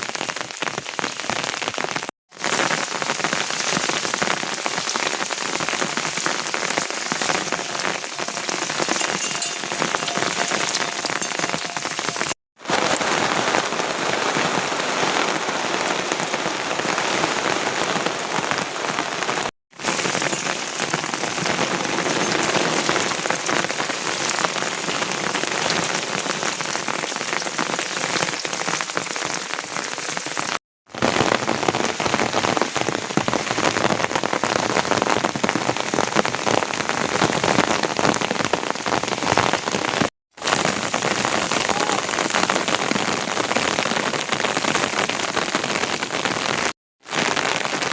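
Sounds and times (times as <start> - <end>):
heavy rain pattering: 0.0 - 47.9.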